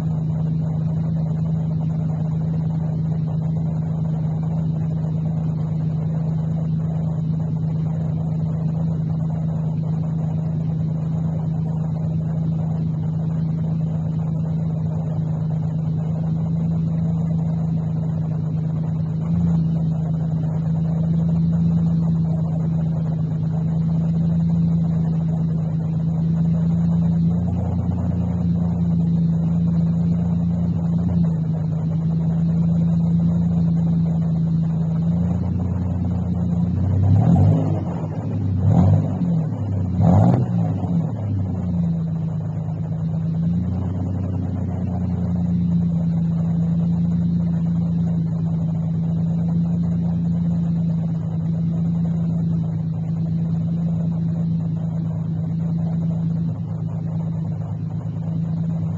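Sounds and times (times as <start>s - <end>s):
truck engine running: 0.0s - 58.9s.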